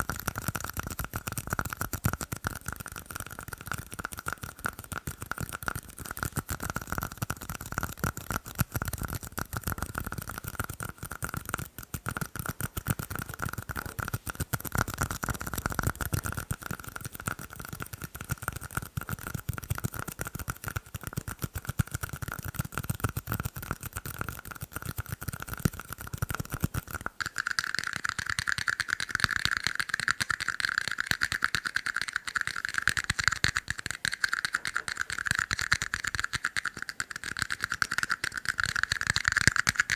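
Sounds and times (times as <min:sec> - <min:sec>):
fast tapping on plastic cups: 0:00.0 - 0:39.9.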